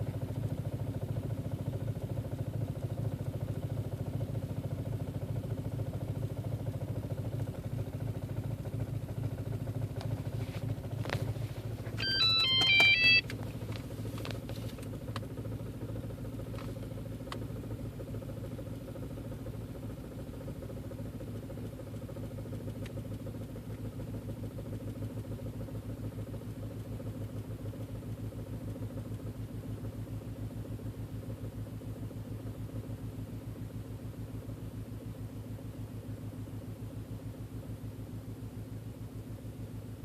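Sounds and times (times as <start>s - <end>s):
car engine rough idle: 0.0s - 40.0s.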